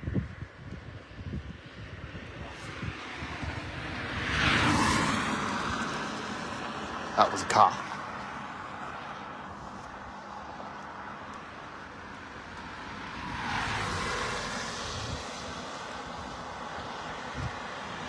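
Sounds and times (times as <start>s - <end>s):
plane flying over: 0.0s - 18.0s.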